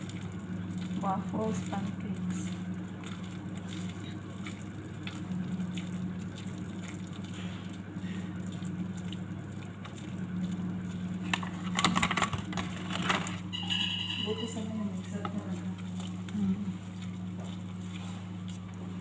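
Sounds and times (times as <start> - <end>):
whisk beating batter in bowl: 0.0 - 11.6, 13.6 - 19.0
steady low hum: 0.0 - 19.0.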